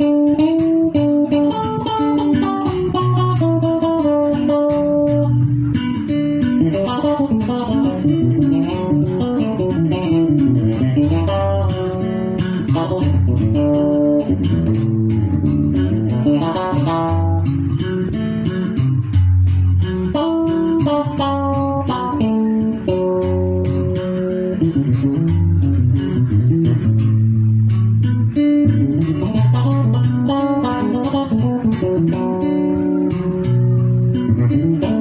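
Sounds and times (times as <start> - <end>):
electric bass guitars playing: 0.0 - 35.0.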